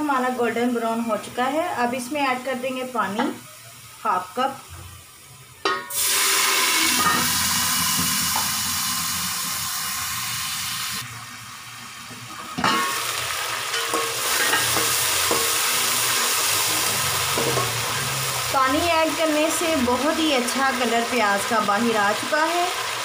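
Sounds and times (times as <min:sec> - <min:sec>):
onions sizzling in hot oil: 0:00.0 - 0:23.0.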